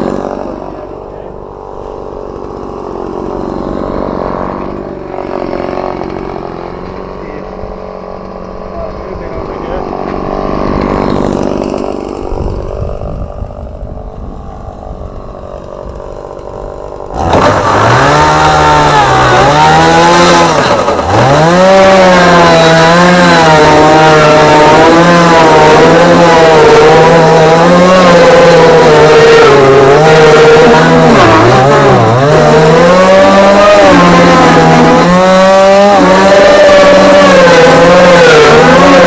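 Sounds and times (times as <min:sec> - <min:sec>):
chainsaw cutting fiberglass: 0:00.0 - 0:39.0.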